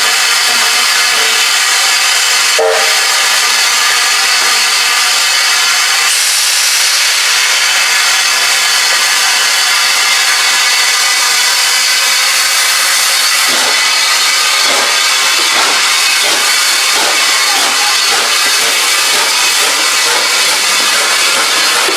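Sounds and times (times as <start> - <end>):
locomotive exhaust beats: 0.0 - 21.9
steam hissing: 0.0 - 21.9.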